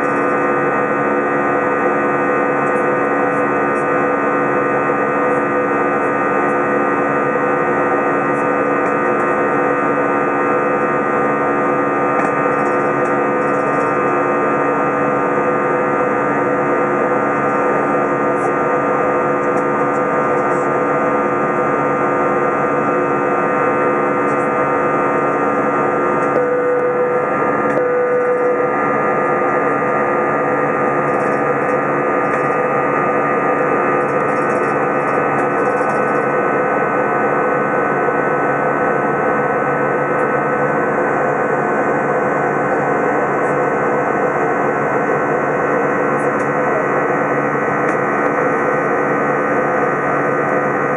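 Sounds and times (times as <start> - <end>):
loud jet engine drone: 0.0 - 50.9.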